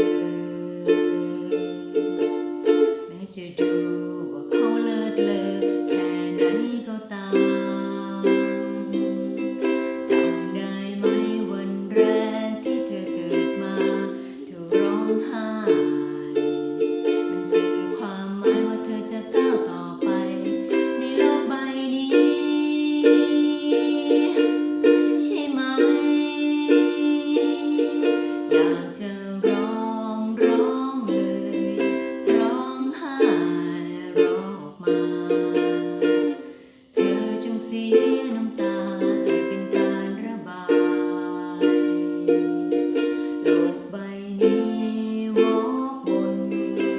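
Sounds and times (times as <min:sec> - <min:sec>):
ukulele playing: 0:00.0 - 0:46.9.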